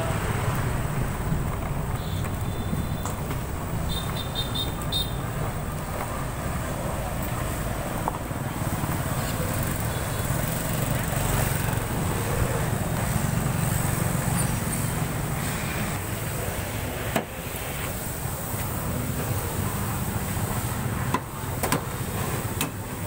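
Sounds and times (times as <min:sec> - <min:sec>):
motorbikes riding past: 0:00.0 - 0:23.0.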